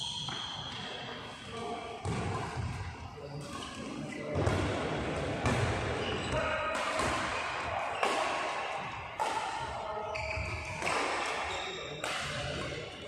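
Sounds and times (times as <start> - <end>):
rackets hitting shuttlecock: 0.2 - 1.2, 2.0 - 13.0.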